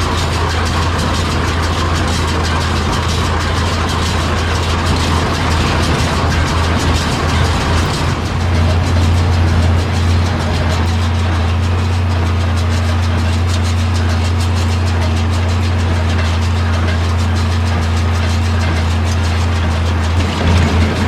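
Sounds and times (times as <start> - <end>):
baler mechanical clatter: 0.0 - 21.0
tractor engine under load: 0.0 - 21.0.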